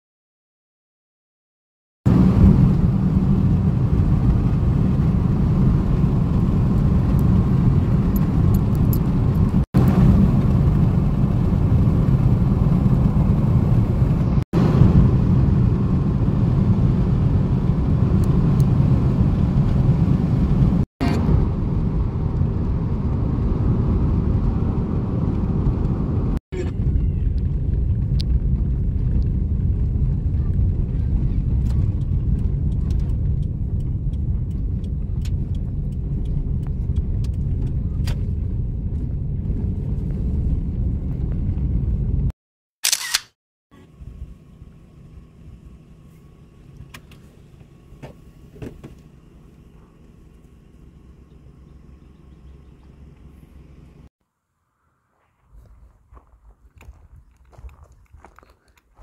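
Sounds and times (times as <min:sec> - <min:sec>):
car road and wind noise: 0:02.1 - 0:42.3, 0:43.8 - 0:54.1.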